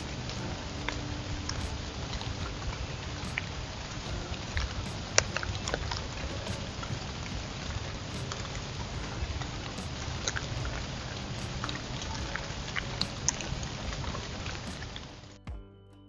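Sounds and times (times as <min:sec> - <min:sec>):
rain hiss: 0:00.0 - 0:15.4.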